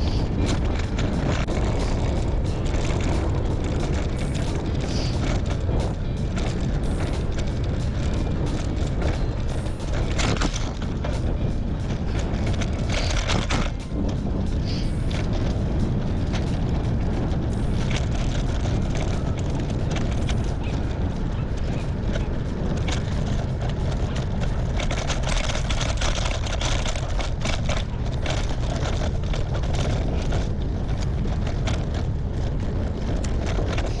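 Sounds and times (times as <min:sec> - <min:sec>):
crackles: 0:00.0 - 0:34.0
wind buffeting microphone: 0:00.0 - 0:34.0.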